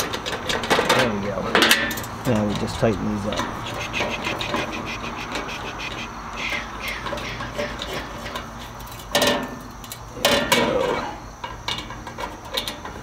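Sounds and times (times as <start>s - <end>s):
metal clanks: 0.0s - 13.0s.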